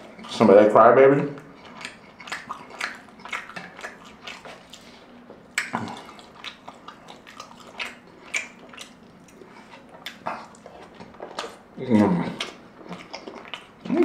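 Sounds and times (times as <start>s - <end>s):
wet chewing mouth clicks: 1.4s - 14.0s.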